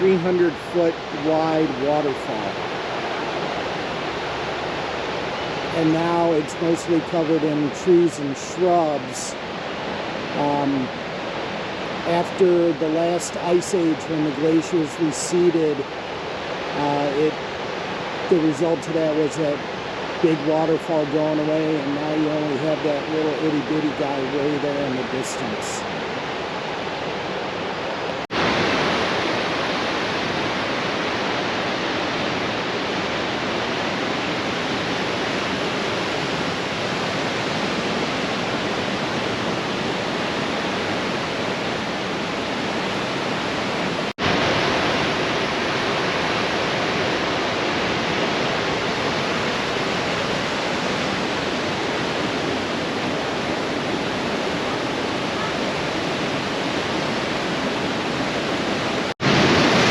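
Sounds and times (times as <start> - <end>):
waterfall rushing water: 0.0 - 59.9.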